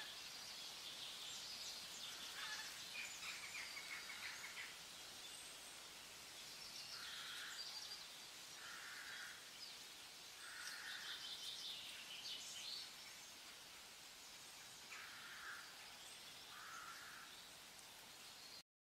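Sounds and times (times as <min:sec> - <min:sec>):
steady hiss: 0:00.0 - 0:18.6.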